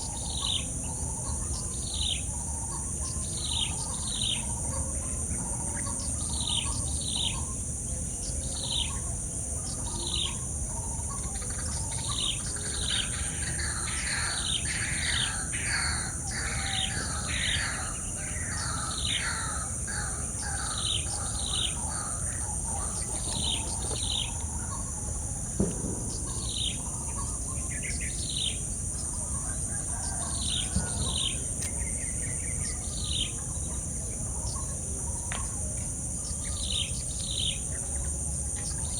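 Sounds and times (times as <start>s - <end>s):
high insect drone: 3.5s - 38.9s.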